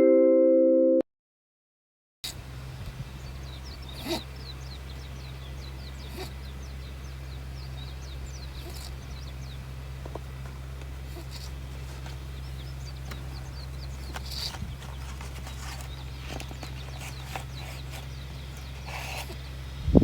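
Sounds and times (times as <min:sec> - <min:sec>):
small birds chirping: 0:02.3 - 0:20.0.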